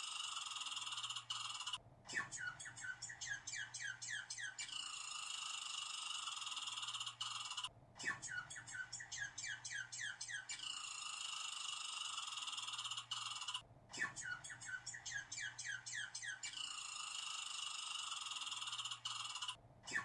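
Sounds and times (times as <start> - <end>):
squirrel chattering: 0.0 - 20.0.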